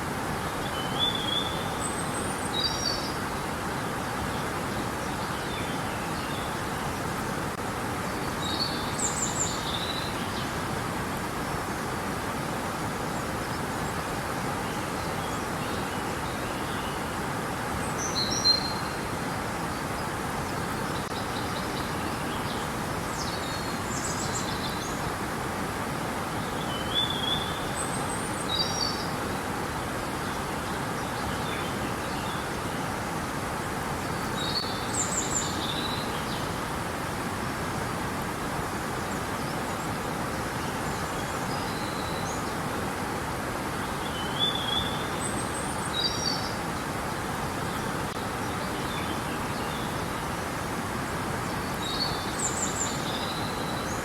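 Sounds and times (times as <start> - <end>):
flowing river water: 0.0 - 54.0.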